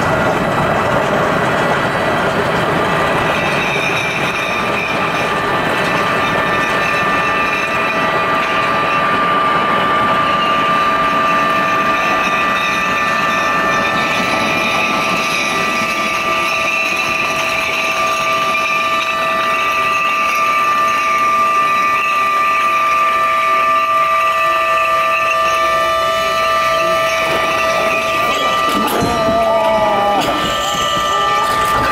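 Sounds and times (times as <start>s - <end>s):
steady high-pitched horn: 6.2s - 31.9s.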